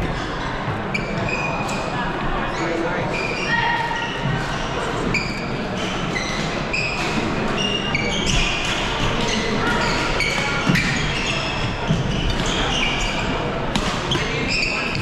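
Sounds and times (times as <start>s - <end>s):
chatter of crowd in hall: 0.0s - 15.0s
shoes squeaking on court floor: 0.0s - 15.0s.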